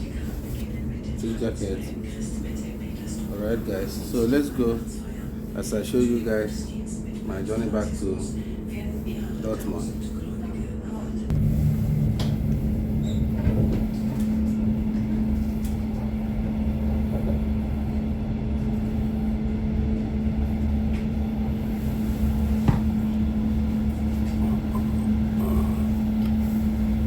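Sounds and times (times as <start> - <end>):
train rumble inside carriage: 0.0 - 27.0.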